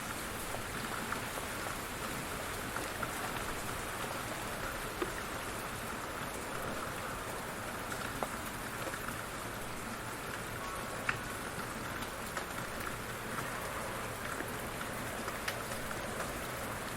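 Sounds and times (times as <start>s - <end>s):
light rain patter: 0.0s - 16.9s.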